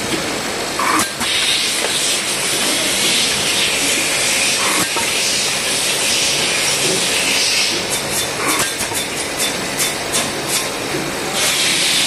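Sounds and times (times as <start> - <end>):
sorting machine hissing: 0.4 - 9.4, 10.0 - 12.0.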